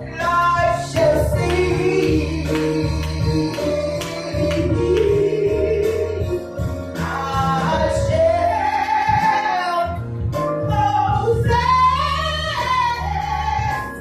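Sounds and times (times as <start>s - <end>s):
person singing gospel: 0.0s - 14.0s
steady musical accompaniment: 0.0s - 14.0s.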